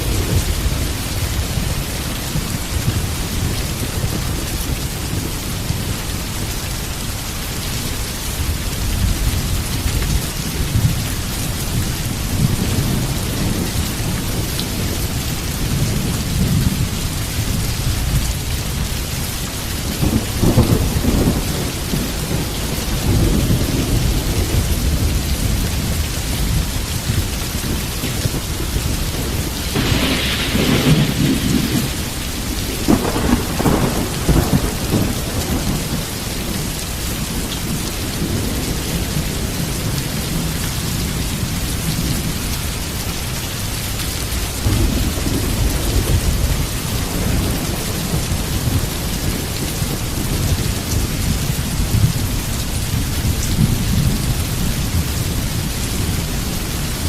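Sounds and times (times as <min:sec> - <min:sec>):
thunder rumbling: 0:00.0 - 0:43.0, 0:44.2 - 0:57.0
heavy rain falling: 0:00.0 - 0:57.0.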